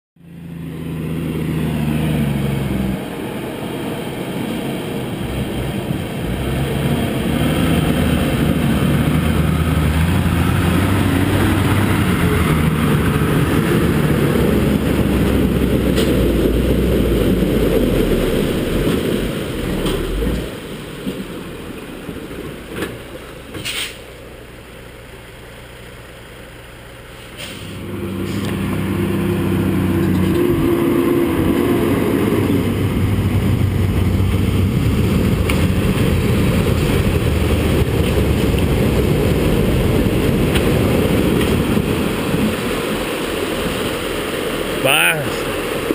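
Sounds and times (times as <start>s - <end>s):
diesel truck engine under load: 0.2s - 45.9s
water splashing around wheels: 0.4s - 45.9s.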